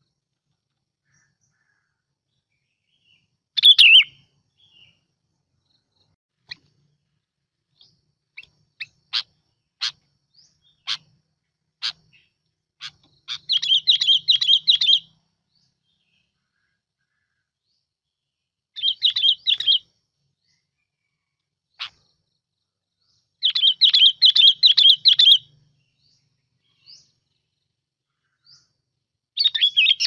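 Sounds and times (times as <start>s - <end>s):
bulbul singing: 1.0s - 17.9s, 18.7s - 20.9s, 21.7s - 30.0s.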